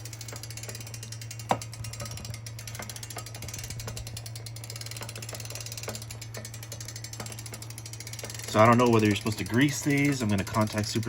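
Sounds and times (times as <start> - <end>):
rapid ratcheting tick: 0.0 - 11.0
steady electric hum: 0.0 - 11.0.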